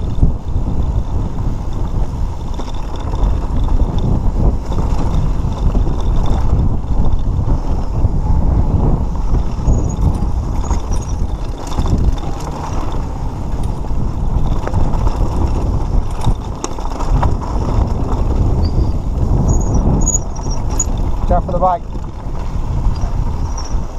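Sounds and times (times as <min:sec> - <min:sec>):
bike clicks and rattles: 0:00.0 - 0:23.9
bike tyres rumbling over gravel: 0:00.0 - 0:23.9
wind buffeting microphone: 0:00.0 - 0:23.9.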